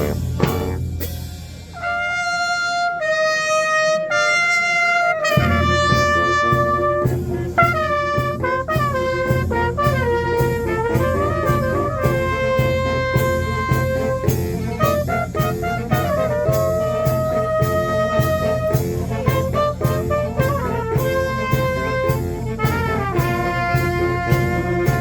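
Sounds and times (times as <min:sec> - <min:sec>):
brass playing: 0:00.0 - 0:01.1, 0:01.7 - 0:25.0
drums playing steady beat: 0:00.0 - 0:02.5, 0:05.0 - 0:25.0.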